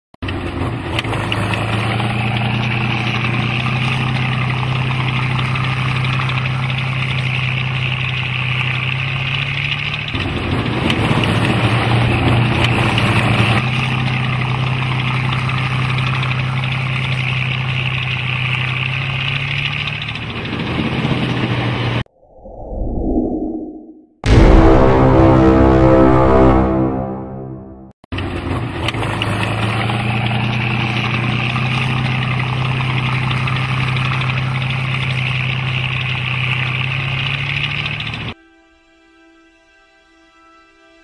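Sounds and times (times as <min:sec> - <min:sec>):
heavy vehicle engine running: 0:00.2 - 0:22.0, 0:24.3 - 0:38.4.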